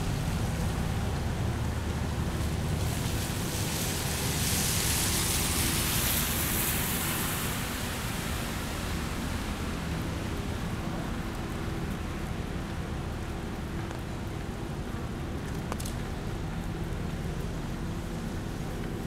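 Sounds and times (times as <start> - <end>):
rain on wet street: 0.0 - 19.0
traffic: 0.0 - 19.0
tyres hissing on wet road: 0.0 - 19.0.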